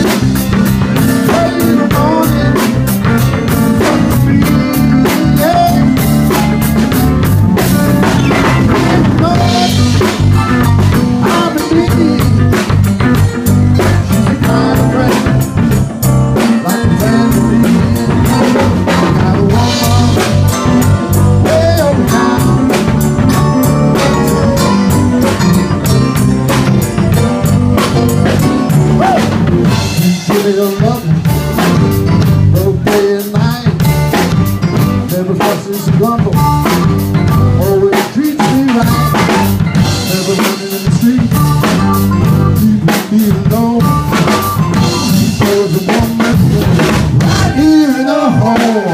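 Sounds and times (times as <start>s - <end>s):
blues band playing: 0.0s - 48.9s
drum kit beat: 0.0s - 48.9s.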